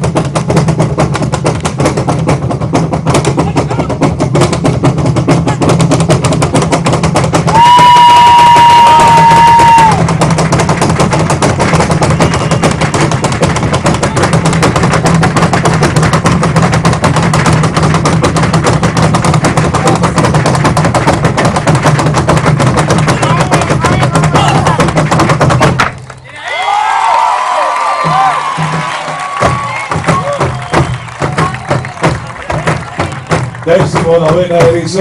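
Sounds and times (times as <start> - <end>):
fast loud drumming: 0.0 - 26.0, 26.7 - 35.0.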